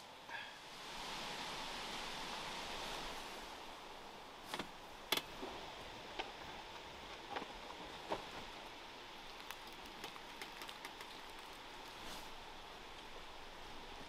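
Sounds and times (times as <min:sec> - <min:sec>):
soft steady hiss: 0:00.0 - 0:14.0.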